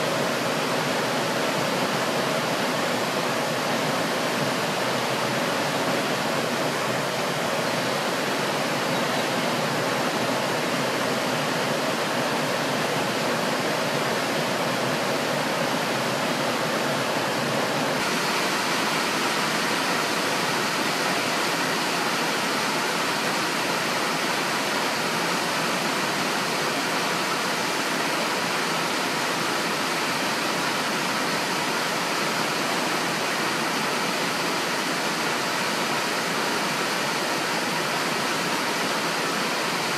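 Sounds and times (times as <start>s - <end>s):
rain on trees and roof: 0.0s - 39.9s
river water rushing: 0.0s - 39.9s.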